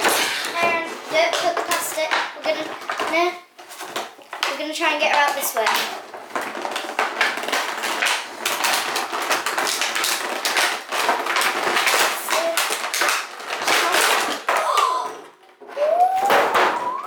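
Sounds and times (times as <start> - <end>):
toy packaging crackling: 0.0 - 17.0.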